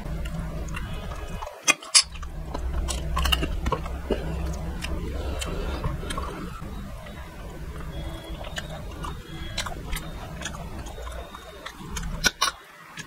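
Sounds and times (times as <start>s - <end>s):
low hum: 0.0s - 13.0s
man chewing and smacking lips: 0.0s - 13.0s.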